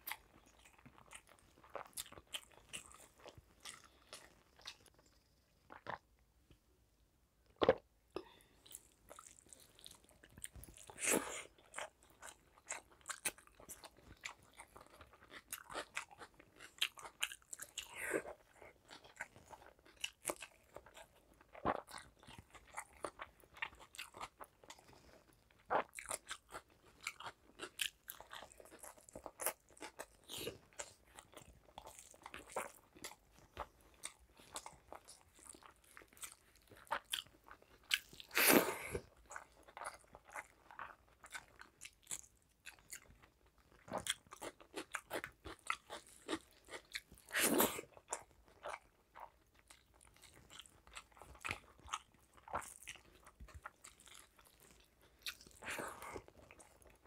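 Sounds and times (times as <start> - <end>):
chewing and crunching: 0.0 - 6.2, 7.5 - 57.0.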